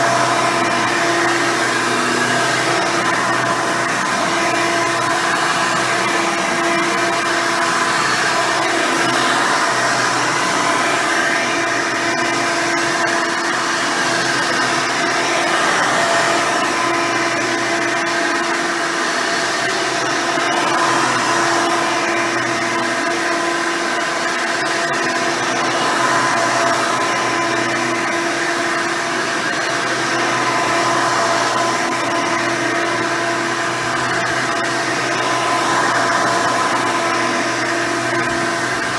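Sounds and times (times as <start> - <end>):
vacuum cleaner whine: 0.0 - 38.9.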